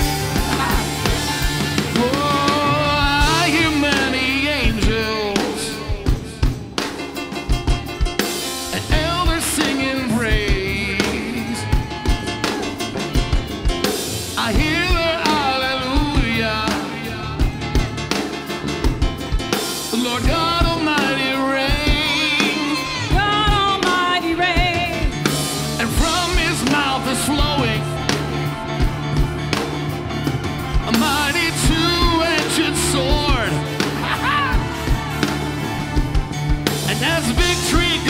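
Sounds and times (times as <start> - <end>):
bass and keys: 0.0 - 38.0
wordless melodic line with vibrato: 0.0 - 38.0.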